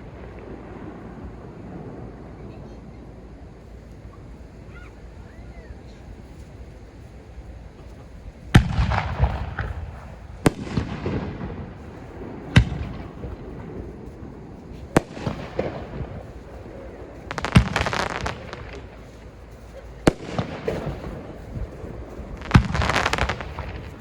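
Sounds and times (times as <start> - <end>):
firework bangs: 0.0 - 24.0
firework crackling: 0.0 - 24.0.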